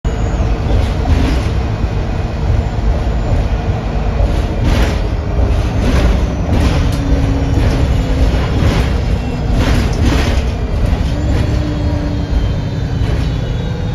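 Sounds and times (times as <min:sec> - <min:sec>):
bus engine and road rumble: 0:00.0 - 0:13.9.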